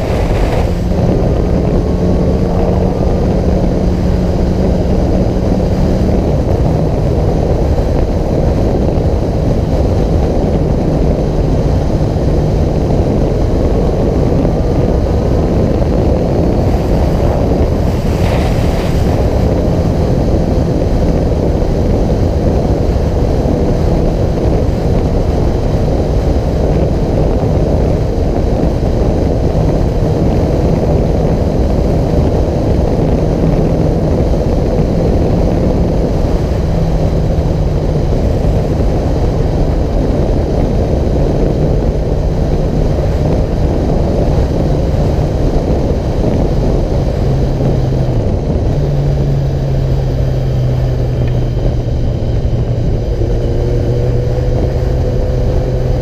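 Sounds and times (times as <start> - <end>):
vehicle engine drone: 0.0 - 56.0
wind rumble on microphone: 0.0 - 56.0.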